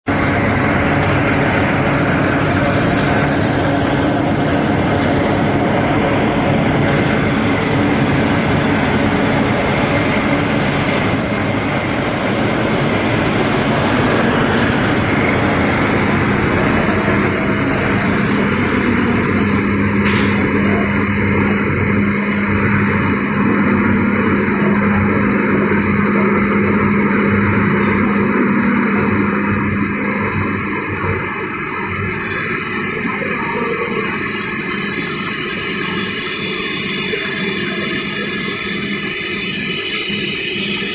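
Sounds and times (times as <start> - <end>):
factory machinery din: 0.0 - 40.9.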